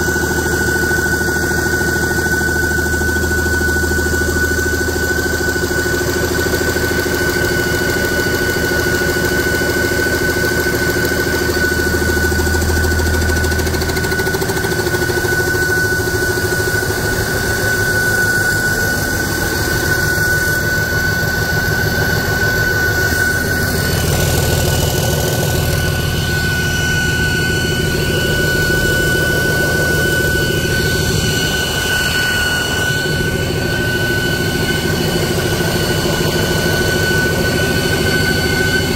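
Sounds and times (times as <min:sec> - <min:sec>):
high-pitched whine: 0:00.0 - 0:38.9
diesel engine running: 0:03.2 - 0:38.9.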